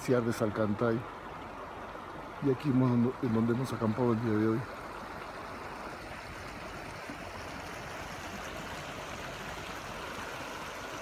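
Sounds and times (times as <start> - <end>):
mountain stream running: 0.0 - 11.0.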